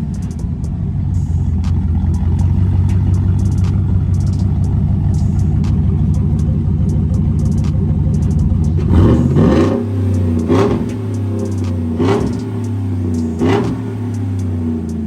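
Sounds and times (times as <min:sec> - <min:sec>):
truck engine idling and revving: 0:00.0 - 0:15.0.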